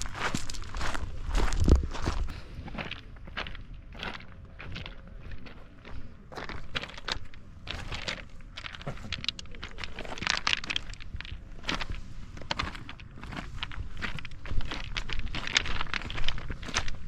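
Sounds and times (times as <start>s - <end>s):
footsteps walking: 0.0s - 17.0s.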